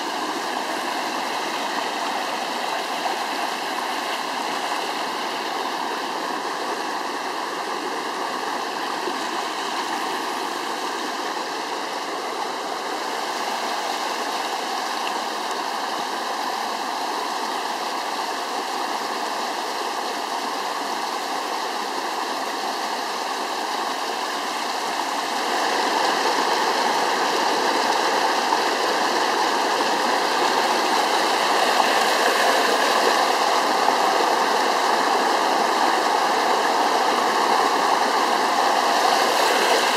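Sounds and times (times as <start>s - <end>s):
floodwater rushing down stream: 0.0s - 39.9s.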